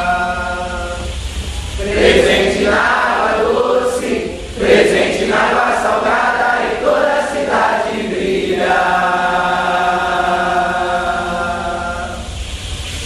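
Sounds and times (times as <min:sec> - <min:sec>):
group of voices chanting: 0:01.8 - 0:12.3.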